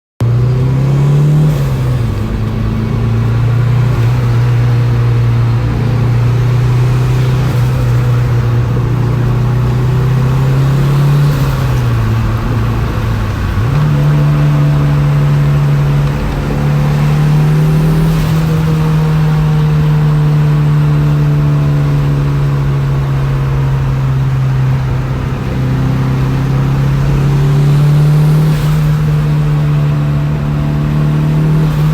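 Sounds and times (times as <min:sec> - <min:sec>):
turbocharged car engine running: 0:00.2 - 0:31.9.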